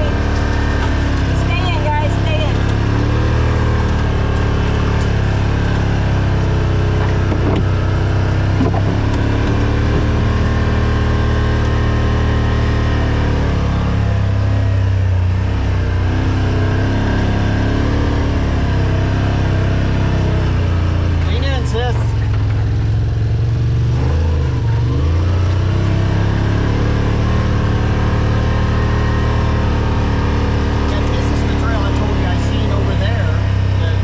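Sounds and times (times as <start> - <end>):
utility vehicle engine running: 0.0 - 34.0.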